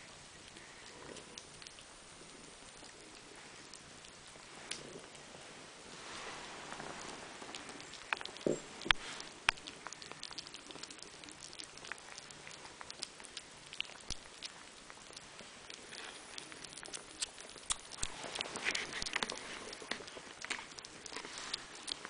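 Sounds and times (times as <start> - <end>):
kittens chewing and lapping food: 0.0 - 22.0.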